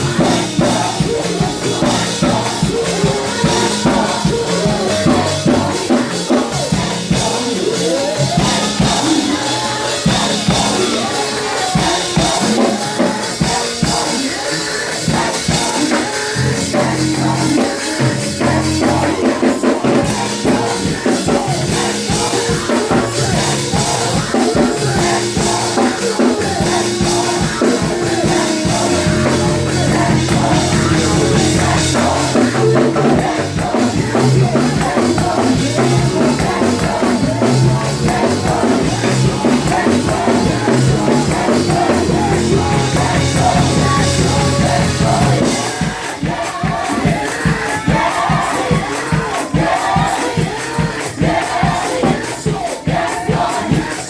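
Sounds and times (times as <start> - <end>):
band with drum kit playing: 0.0 - 54.0
singers singing: 0.0 - 54.0.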